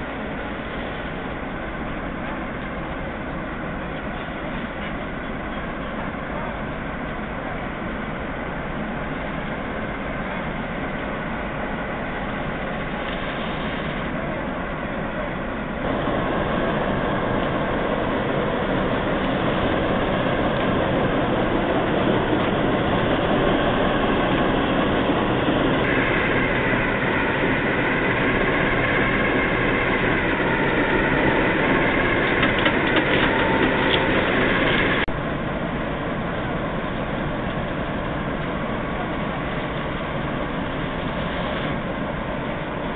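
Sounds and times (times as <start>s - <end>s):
diesel locomotive engine running: 0.0s - 42.9s
high wavering whine: 0.0s - 42.9s.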